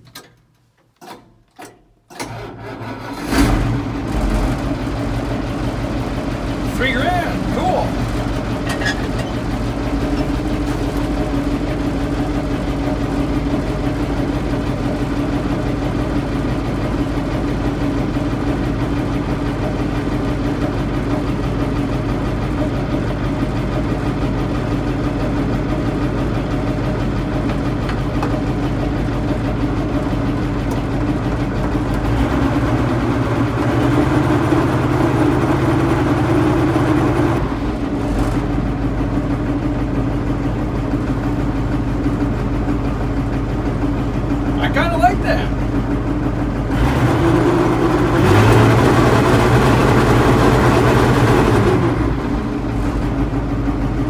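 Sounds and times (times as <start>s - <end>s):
diesel engine idling: 2.3s - 54.0s.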